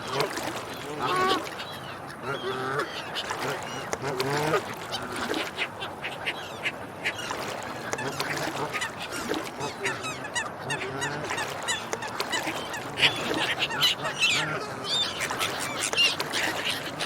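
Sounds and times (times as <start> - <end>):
waterfowl honking and quacking: 0.0 - 17.0.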